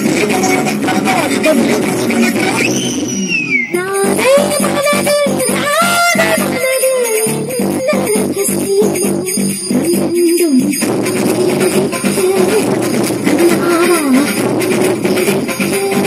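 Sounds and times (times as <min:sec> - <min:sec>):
loud dance music: 0:00.0 - 0:16.0.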